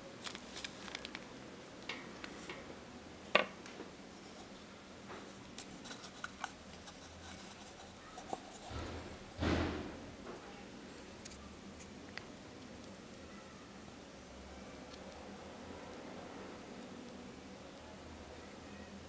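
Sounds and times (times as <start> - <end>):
low room hiss: 0.0 - 19.0.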